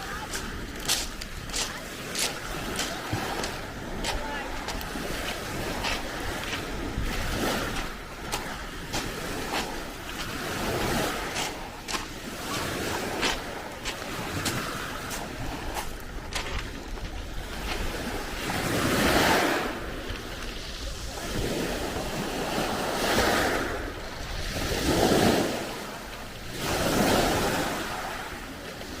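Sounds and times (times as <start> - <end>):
waves breaking on shore: 0.0 - 29.0.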